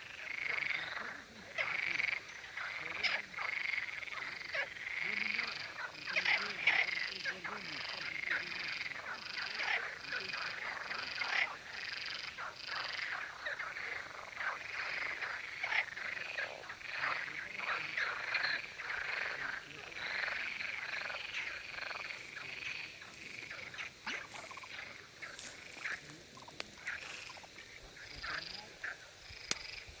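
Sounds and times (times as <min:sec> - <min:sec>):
frog chorus croaking: 0:00.0 - 0:30.0.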